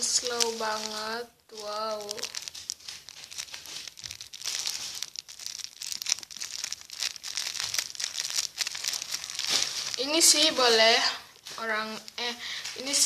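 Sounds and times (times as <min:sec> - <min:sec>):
squishy toy crinkling: 0:00.0 - 0:13.0.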